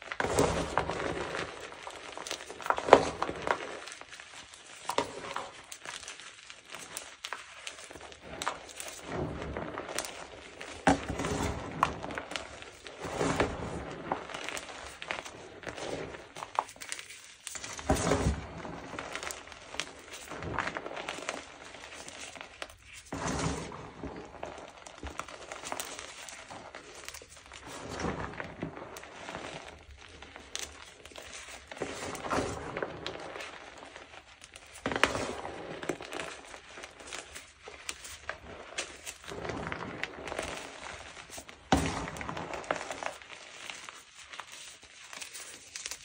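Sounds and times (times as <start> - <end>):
chalk being crushed: 0.1 - 46.0.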